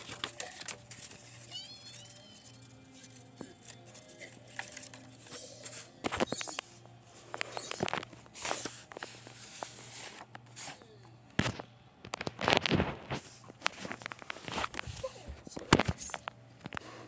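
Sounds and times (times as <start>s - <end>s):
paper rustling and rubbing: 0.0s - 10.8s, 12.3s - 15.2s.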